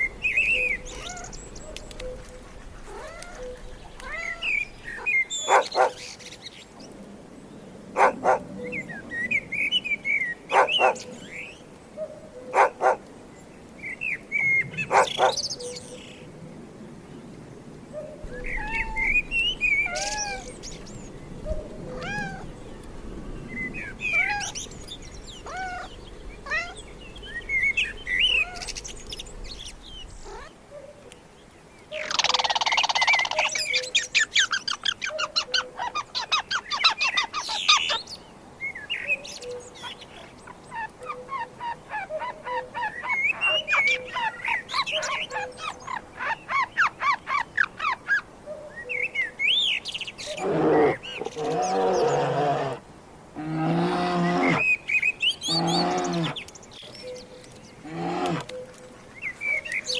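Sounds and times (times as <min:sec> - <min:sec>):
harsh bird call and chattering: 0:00.0 - 0:06.7, 0:08.0 - 0:11.6, 0:13.8 - 0:16.2, 0:18.3 - 0:30.6, 0:31.8 - 0:48.3, 0:48.9 - 0:52.8, 0:53.4 - 0:59.9
birds chirping: 0:00.0 - 0:59.9.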